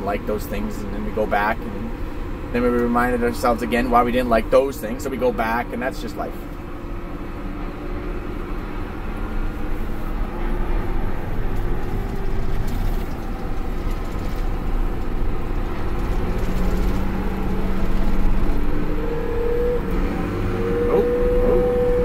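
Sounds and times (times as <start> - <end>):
tractor engine drone: 0.0 - 22.0
tyre and road rumble: 0.0 - 22.0.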